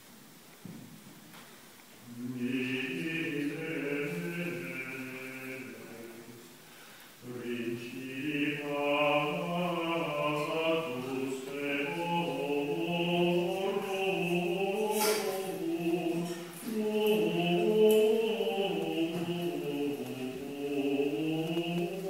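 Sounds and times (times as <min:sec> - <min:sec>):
choir chanting: 0:02.0 - 0:06.4, 0:07.2 - 0:22.0.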